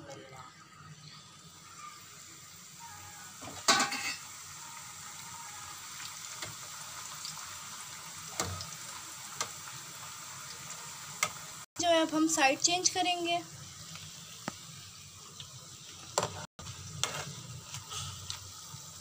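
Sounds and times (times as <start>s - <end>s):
flatbread frying in oil: 1.1s - 19.0s.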